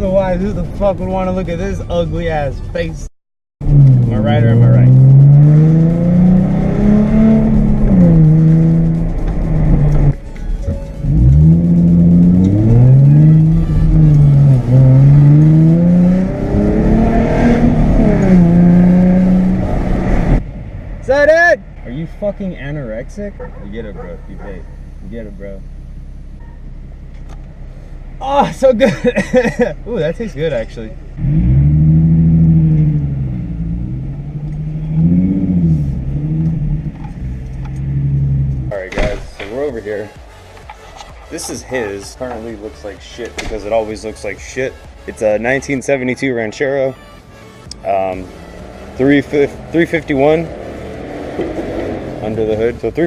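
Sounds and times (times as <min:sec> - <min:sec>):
car engine accelerating: 0:03.6 - 0:45.9, 0:47.6 - 0:53.0.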